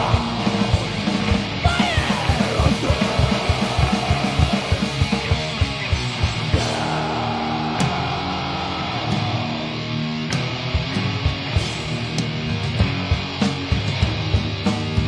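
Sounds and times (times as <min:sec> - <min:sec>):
heavy metal band playing live: 0:00.0 - 0:15.0
rapid drum beats: 0:00.0 - 0:15.0.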